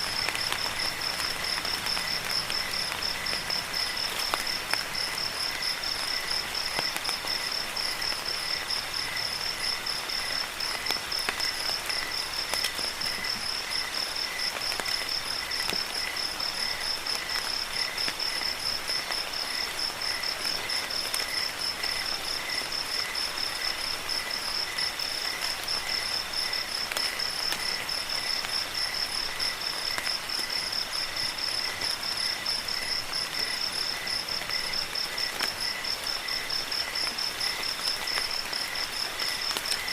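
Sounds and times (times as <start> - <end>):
crickets chirping: 0.0 - 39.9
rain hissing: 0.0 - 39.9.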